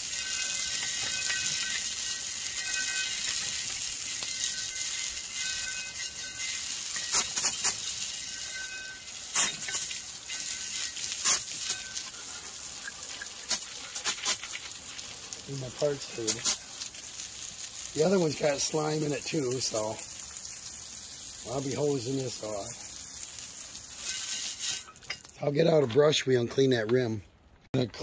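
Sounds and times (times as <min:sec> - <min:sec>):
garden hose spraying water: 0:00.0 - 0:25.8.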